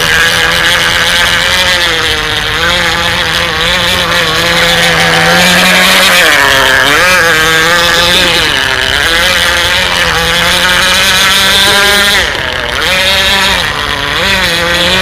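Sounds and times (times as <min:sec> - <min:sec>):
model boat engine at high revs: 0:00.0 - 0:15.0.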